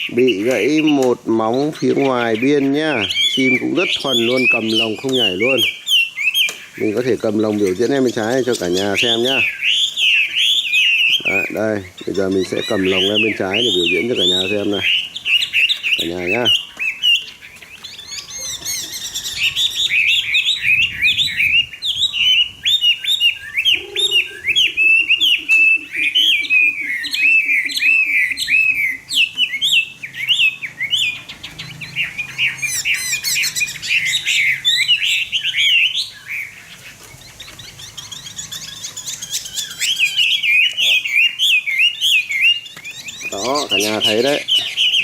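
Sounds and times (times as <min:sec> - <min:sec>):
bird singing whistled phrases: 0:00.0 - 0:45.0.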